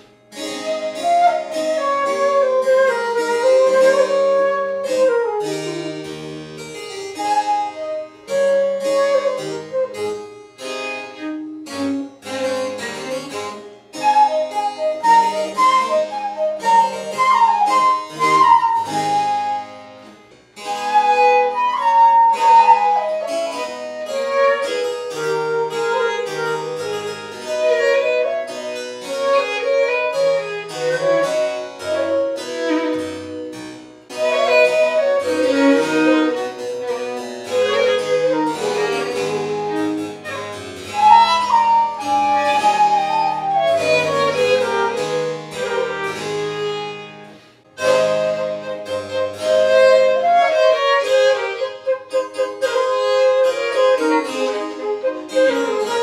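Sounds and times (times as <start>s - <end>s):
flute melody: 0.0s - 56.0s
harpsichord plucked chords: 0.0s - 56.0s
violin melody: 0.0s - 56.0s.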